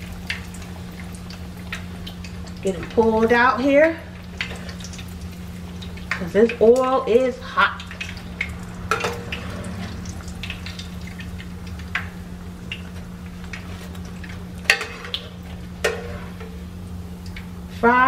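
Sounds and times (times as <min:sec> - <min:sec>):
oil sizzling in a frying pan: 0:00.0 - 0:18.0
steady low hum: 0:00.0 - 0:18.0.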